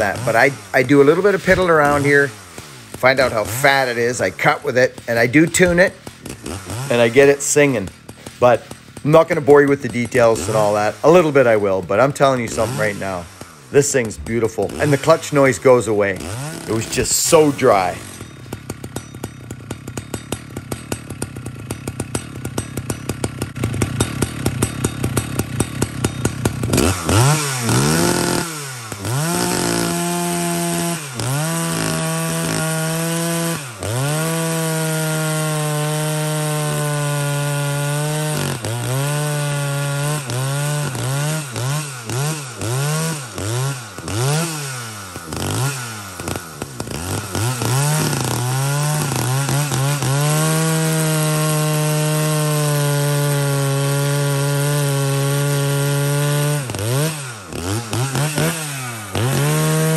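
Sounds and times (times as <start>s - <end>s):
chainsaw cutting through log: 0.0s - 59.9s
chainsaw idling: 0.0s - 59.9s
chainsaw revving: 0.0s - 59.9s.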